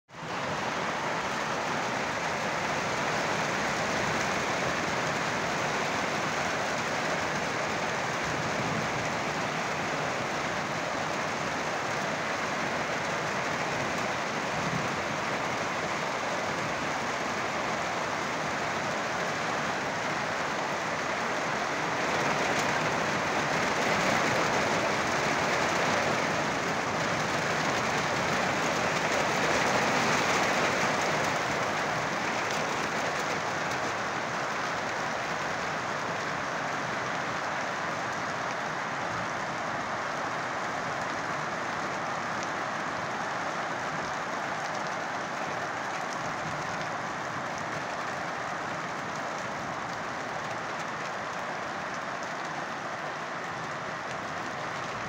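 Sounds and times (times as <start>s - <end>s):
rain falling on trees: 0.1s - 55.0s.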